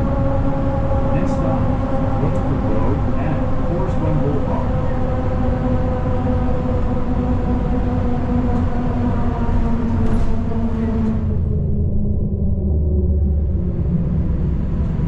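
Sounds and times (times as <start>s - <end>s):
bus drivetrain and road rumble: 0.0s - 15.0s
steady whine: 0.0s - 15.0s.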